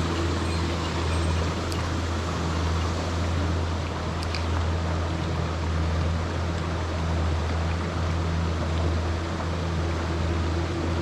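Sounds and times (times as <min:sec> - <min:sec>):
constant low hum: 0:00.0 - 0:11.0
stream water rushing: 0:00.0 - 0:11.0.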